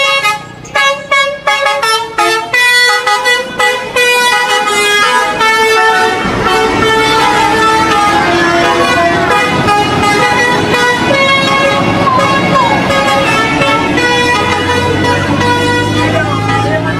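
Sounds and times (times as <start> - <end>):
multi-tone air horn melody: 0.0 - 16.9.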